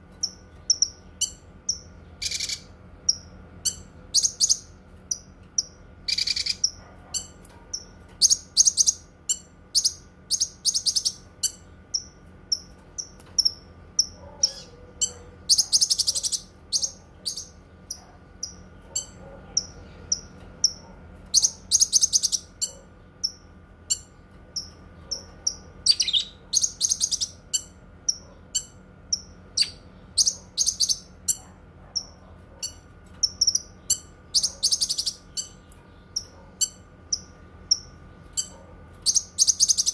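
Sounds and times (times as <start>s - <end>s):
bird singing trills: 0.2s - 31.4s, 32.0s - 39.9s.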